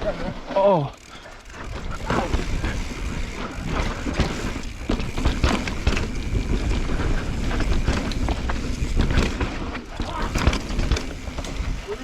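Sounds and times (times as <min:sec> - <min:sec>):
bike knocking and rattling: 0:00.0 - 0:12.0
tyre and wind noise: 0:01.0 - 0:12.0.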